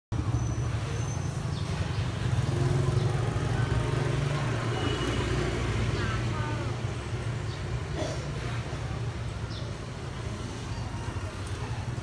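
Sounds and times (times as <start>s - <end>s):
road traffic rumble: 0.1s - 12.0s.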